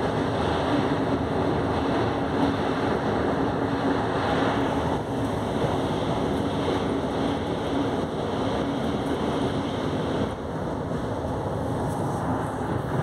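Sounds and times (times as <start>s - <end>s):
passing train: 0.0s - 13.0s
train rumbling on rails: 0.0s - 13.0s.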